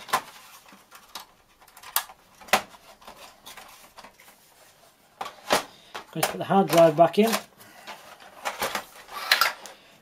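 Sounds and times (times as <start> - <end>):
plastic parts clicking and knocking: 0.0 - 4.3, 5.2 - 9.8.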